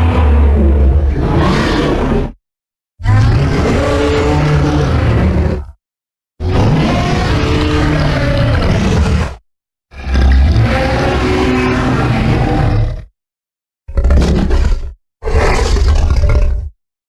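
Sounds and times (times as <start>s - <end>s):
monster roars: 0.0s - 2.4s, 3.0s - 5.8s, 6.4s - 13.1s, 13.9s - 16.8s.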